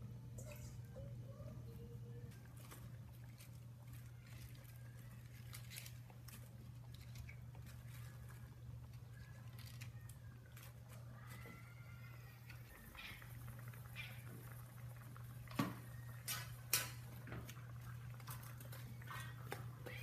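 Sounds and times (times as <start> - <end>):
pot simmering with faint pops: 0.0 - 20.0
steady low hum: 0.0 - 20.0.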